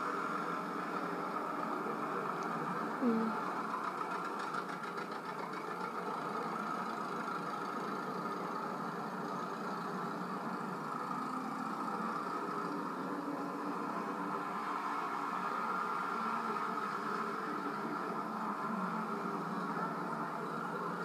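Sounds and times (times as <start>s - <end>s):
tractor engines droning: 0.0s - 21.0s.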